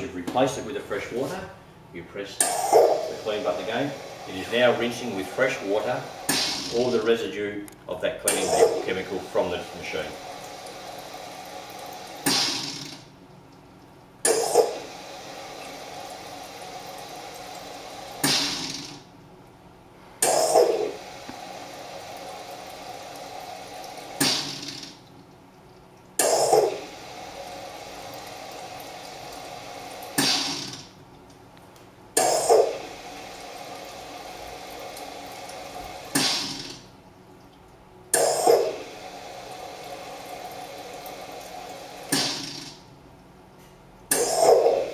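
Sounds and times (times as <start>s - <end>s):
coffee machine flushing water: 0.0s - 19.2s, 20.0s - 31.2s, 32.1s - 43.0s, 44.0s - 44.9s.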